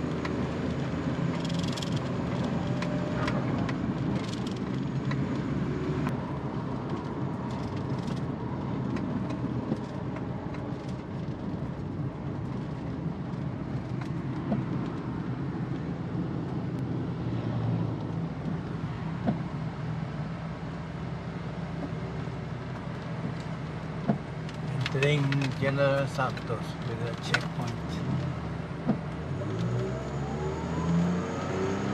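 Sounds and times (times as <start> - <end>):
car engine and road hum: 0.0 - 31.9.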